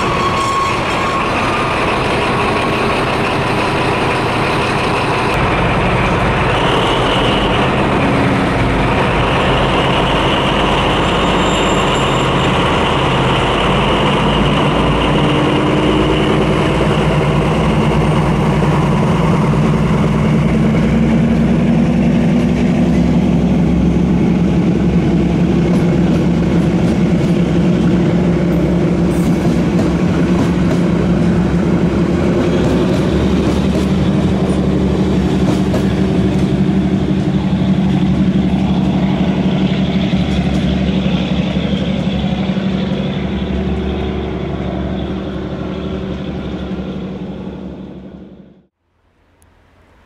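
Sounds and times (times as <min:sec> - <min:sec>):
diesel locomotive engine drone: 0:00.0 - 0:50.0.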